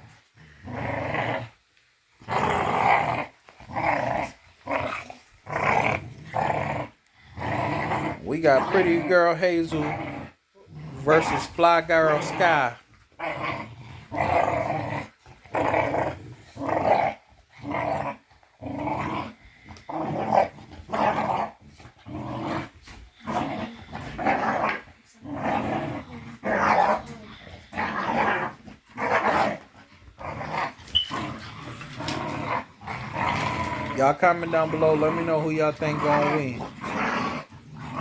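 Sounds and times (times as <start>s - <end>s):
puppies growling: 0.0s - 1.6s, 2.2s - 38.0s.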